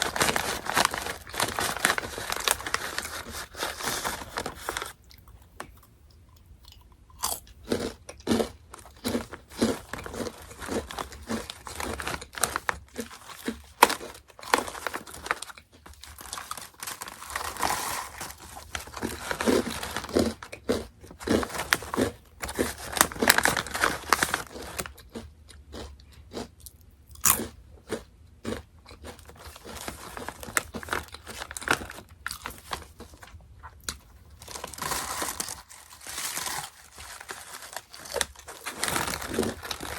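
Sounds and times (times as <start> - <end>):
crackers crunching while chewed: 0.0 - 39.9.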